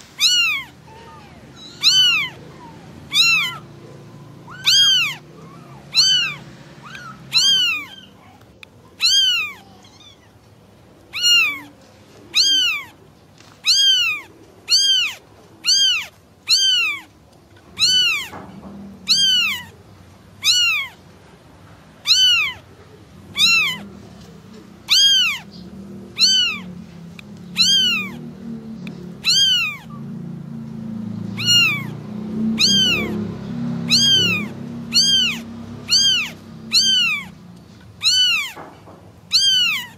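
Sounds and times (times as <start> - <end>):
kitten meowing: 0.0 - 10.4, 11.1 - 13.0, 13.6 - 19.8, 20.4 - 21.1, 22.0 - 22.7, 23.3 - 24.0, 24.8 - 30.2, 31.3 - 39.9.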